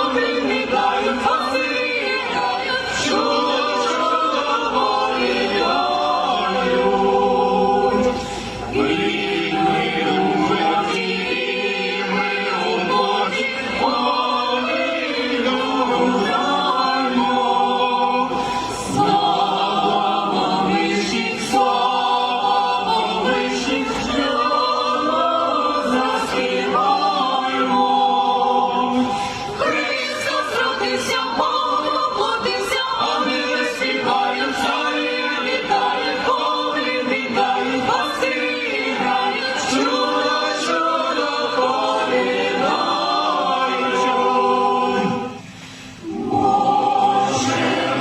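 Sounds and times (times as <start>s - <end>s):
choir singing a carol: 0.0s - 48.0s.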